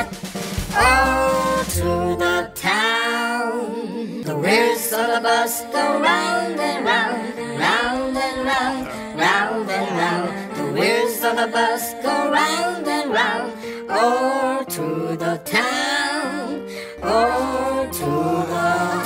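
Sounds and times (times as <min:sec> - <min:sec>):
person singing: 0:00.7 - 0:19.0.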